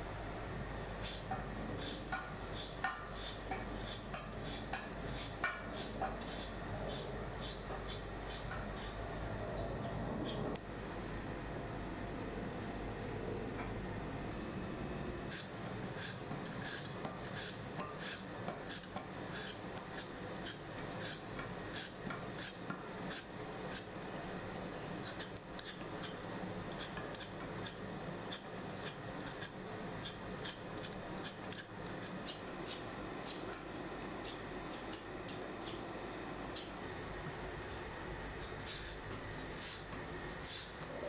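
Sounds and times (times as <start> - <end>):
faint steady background noise: 0.0 - 41.0.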